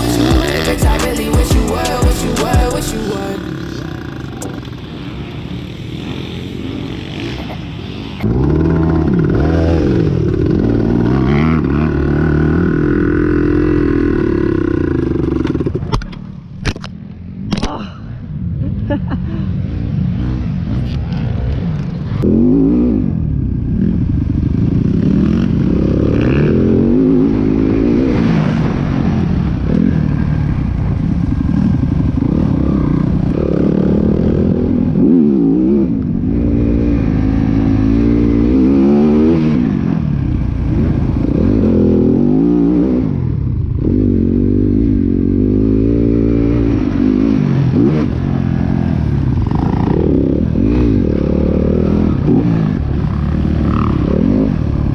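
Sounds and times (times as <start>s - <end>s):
dirt bike engine revving: 0.0s - 15.9s, 19.7s - 54.9s.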